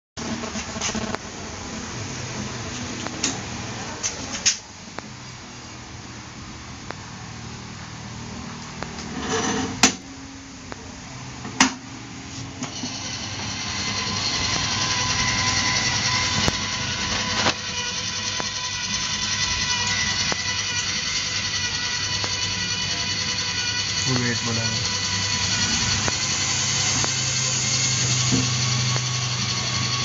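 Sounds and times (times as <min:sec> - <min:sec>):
motor whine: 0:04.9 - 0:30.0.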